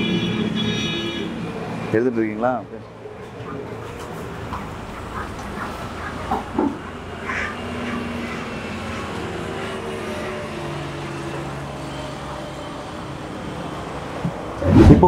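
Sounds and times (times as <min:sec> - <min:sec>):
vehicle engines droning: 0:00.0 - 0:15.0.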